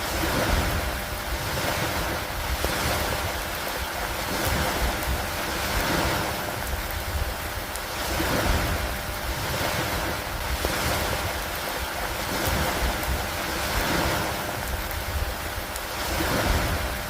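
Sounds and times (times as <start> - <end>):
heavy rain hiss: 0.0 - 17.0
low fluttering rumble: 0.0 - 17.0.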